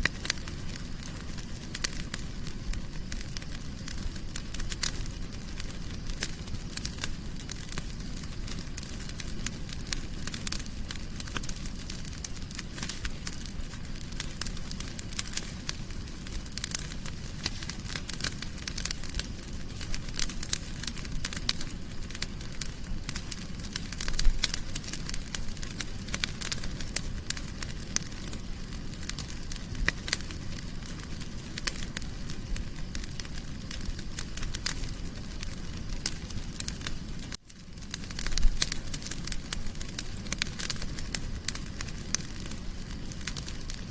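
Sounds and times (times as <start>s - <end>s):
low rumble of flame: 0.0s - 43.9s
sharp pops of fire: 0.0s - 43.9s
wood fire crackling: 0.0s - 43.9s.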